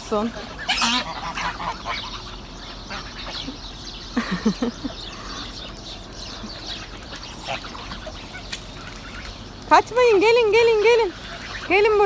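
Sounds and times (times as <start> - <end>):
geese calling: 0.0 - 12.0
faint bird calls: 0.1 - 12.0.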